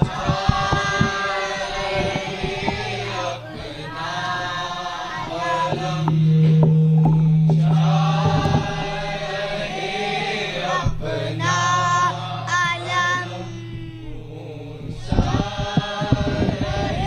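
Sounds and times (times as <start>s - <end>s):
group chanting a lament: 0.0s - 17.0s
steady low held note: 0.0s - 17.0s.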